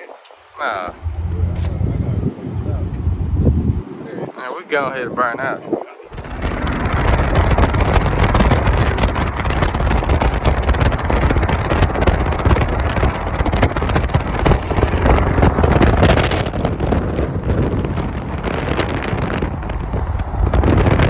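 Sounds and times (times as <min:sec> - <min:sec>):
wind rushing over microphone: 0:00.0 - 0:21.0
car engine running: 0:00.9 - 0:03.8, 0:06.1 - 0:21.0.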